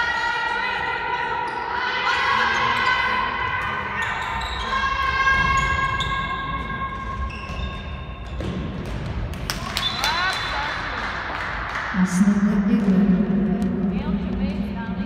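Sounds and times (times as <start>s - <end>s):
ball bouncing on hall floor: 2.8s - 15.0s.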